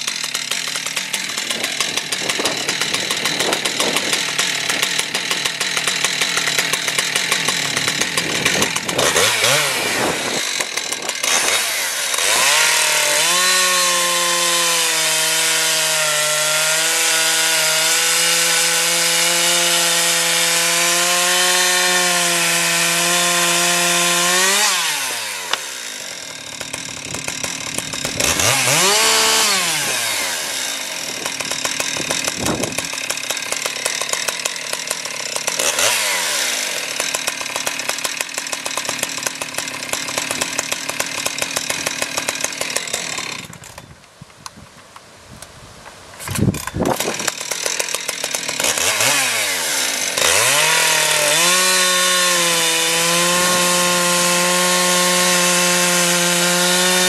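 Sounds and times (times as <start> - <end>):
chainsaw idling and revving: 0.0 - 44.1, 46.2 - 57.0
chainsaw cutting wood: 0.0 - 57.0.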